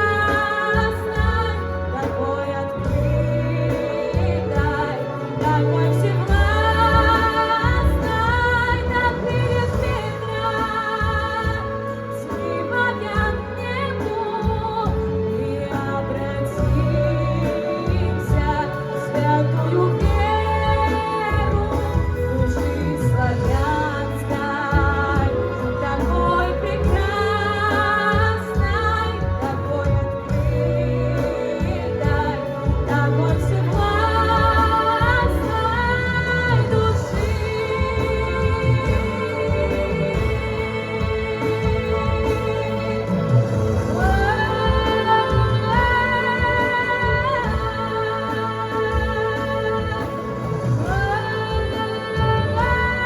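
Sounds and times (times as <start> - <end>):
backing track with bass line: 0.0 - 53.0
woman singing with vibrato: 0.0 - 53.0.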